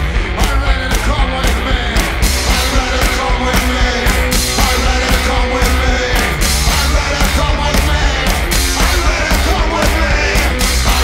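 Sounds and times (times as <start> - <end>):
drum kit with cymbals: 0.0 - 11.0
electric guitar: 0.0 - 11.0.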